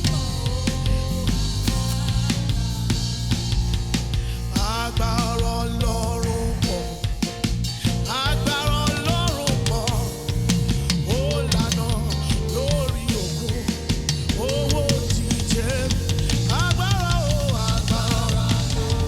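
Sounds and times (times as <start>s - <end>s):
bass: 0.0s - 19.0s
drum kit: 0.0s - 19.0s
worship band music: 0.0s - 19.0s.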